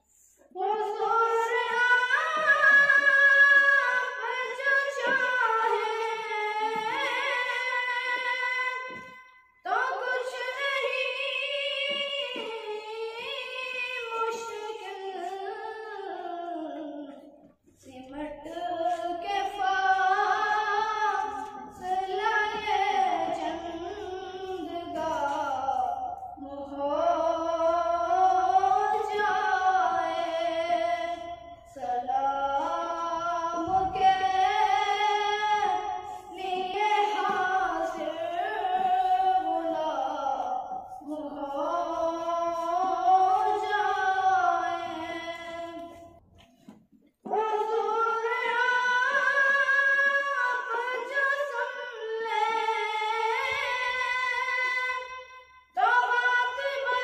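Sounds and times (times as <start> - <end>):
boy singing into a microphone: 0.0 - 57.0.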